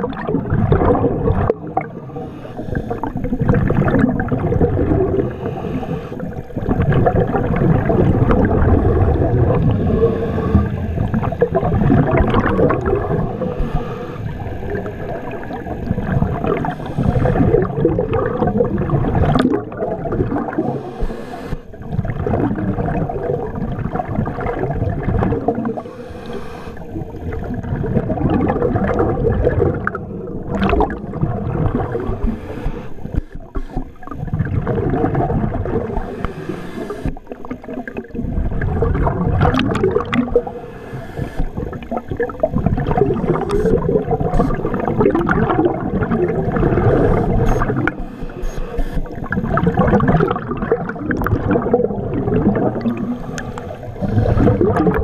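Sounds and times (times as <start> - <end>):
bubbles gurgling: 0.0 - 55.0
diver breathing underwater: 1.8 - 22.0, 25.1 - 28.3, 29.4 - 55.0.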